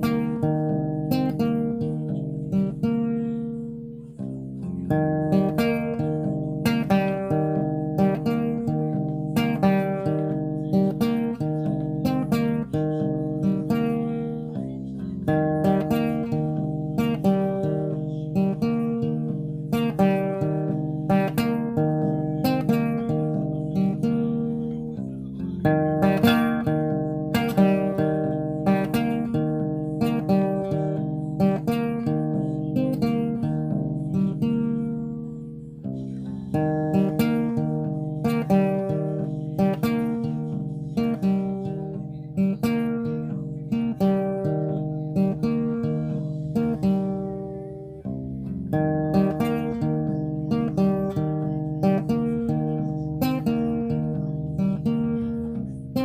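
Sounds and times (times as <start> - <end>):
acoustic guitar chords: 0.0 - 56.0.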